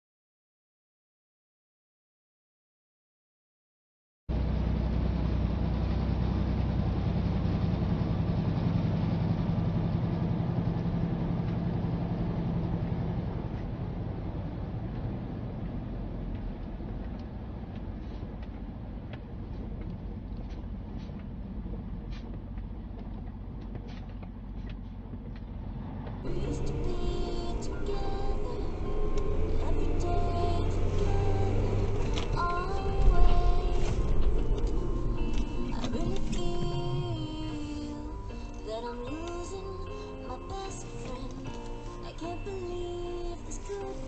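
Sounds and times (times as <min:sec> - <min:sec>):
wind and road noise in car: 0:04.3 - 0:44.0.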